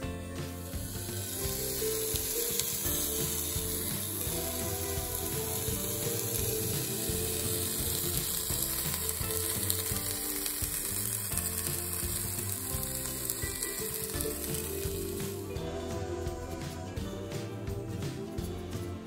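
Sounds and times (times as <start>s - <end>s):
vegetables sizzling in a frying pan: 0.0s - 18.2s
rhythmic background music: 0.0s - 19.0s.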